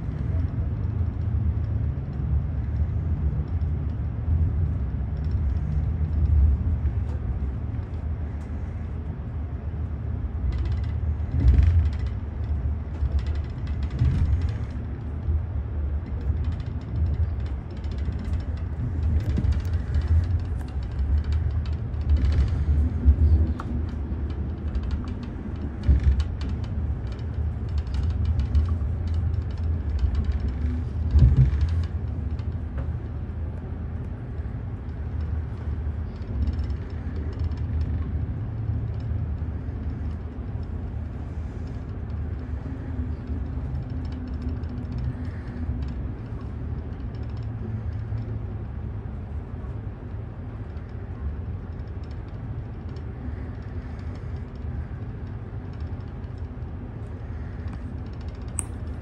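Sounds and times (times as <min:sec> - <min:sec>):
train carriage rumble: 0:00.0 - 0:59.0.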